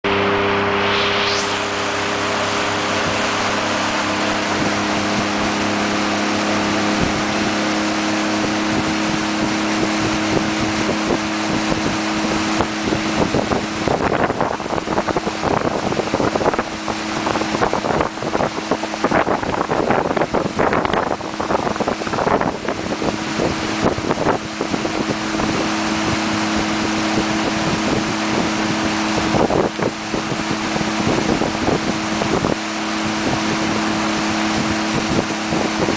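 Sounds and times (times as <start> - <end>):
motorboat engine hum: 0.0 - 35.9
wind buffeting microphone: 0.8 - 35.9.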